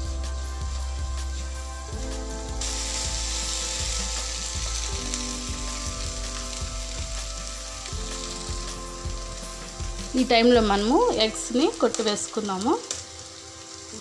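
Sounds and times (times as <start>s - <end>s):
cabbage sizzling in a pan: 0.0s - 14.0s.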